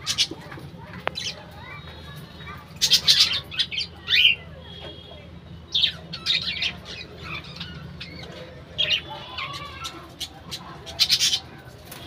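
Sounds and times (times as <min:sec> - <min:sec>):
budgerigars chirping and squawking: 0:00.0 - 0:04.5, 0:05.7 - 0:12.0.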